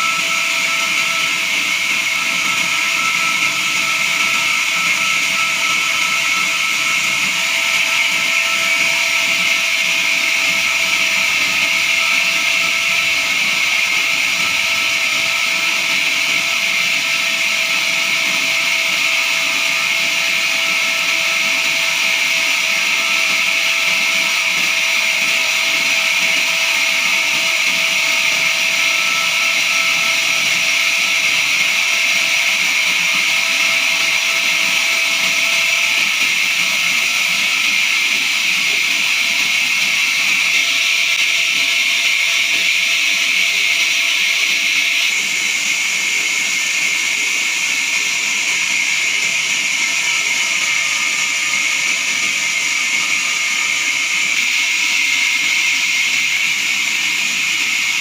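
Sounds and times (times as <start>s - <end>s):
band saw blade whining: 0.0s - 58.0s.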